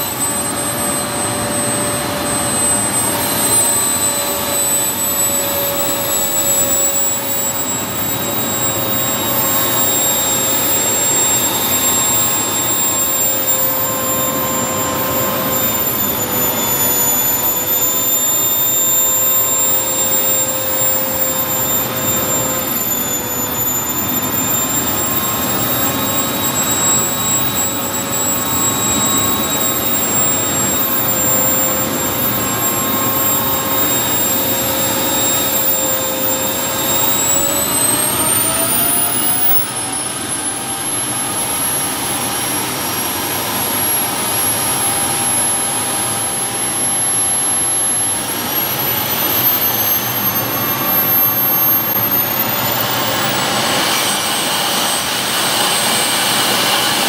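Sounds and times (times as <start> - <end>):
model jet turbine whining: 0.0 - 57.0.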